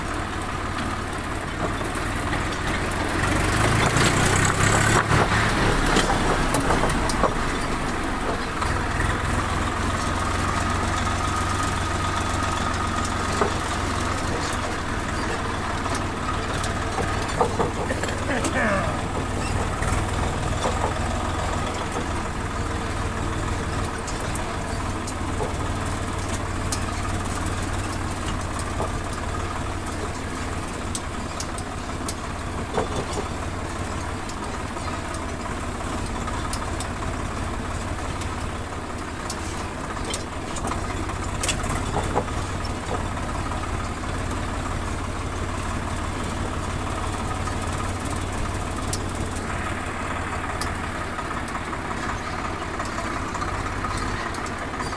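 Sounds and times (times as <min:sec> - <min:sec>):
tractor diesel engine running: 0:00.0 - 0:54.9
faint clicks and rattles: 0:00.7 - 0:54.9.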